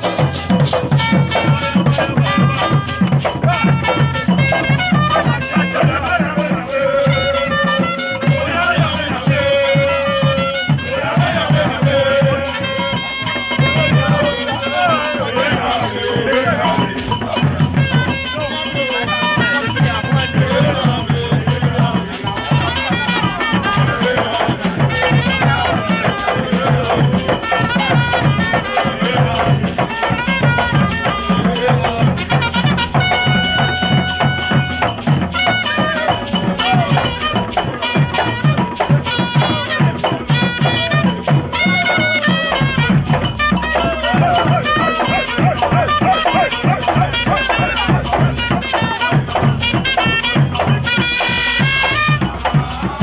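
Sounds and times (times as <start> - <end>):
quick drum beat: 0.0 - 53.0
voices singing: 0.0 - 53.0.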